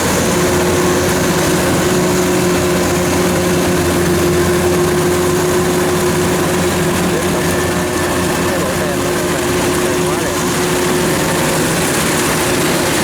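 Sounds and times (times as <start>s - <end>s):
diesel farm machine running: 0.0s - 13.0s.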